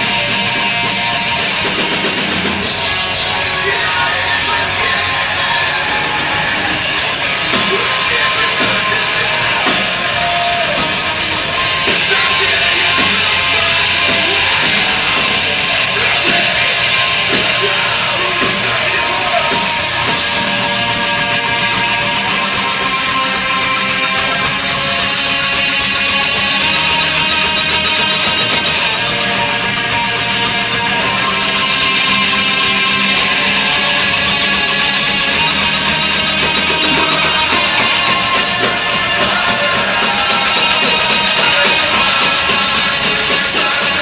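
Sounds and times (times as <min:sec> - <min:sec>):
bass and drums: 0:00.0 - 0:44.0
distorted electric guitars: 0:00.0 - 0:44.0
shouted vocals: 0:00.0 - 0:44.0.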